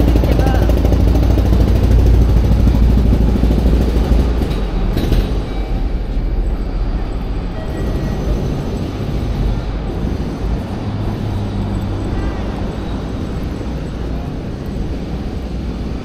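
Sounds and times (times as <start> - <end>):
heavy vehicle rumble: 0.0 - 16.0
street noise: 0.0 - 16.0.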